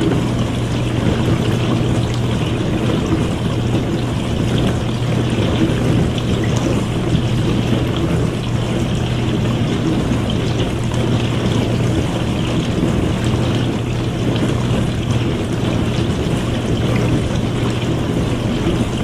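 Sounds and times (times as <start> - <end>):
dishwasher motor hum: 0.0 - 19.0
water spraying and sloshing: 0.0 - 19.0.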